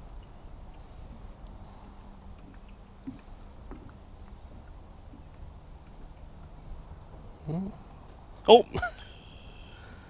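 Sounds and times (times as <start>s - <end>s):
low boat rumble: 0.0s - 10.0s.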